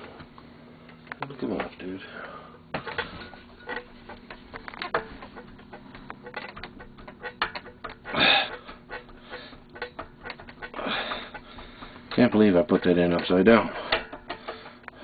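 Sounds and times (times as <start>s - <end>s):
rasping scrape: 2.8s - 15.0s.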